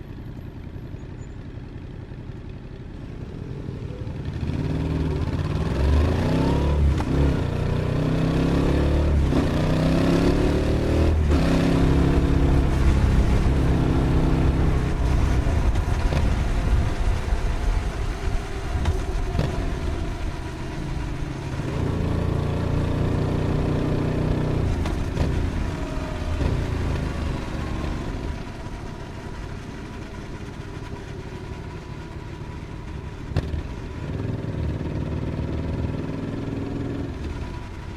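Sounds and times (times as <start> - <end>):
motorcycle engine accelerating: 2.2 - 37.9.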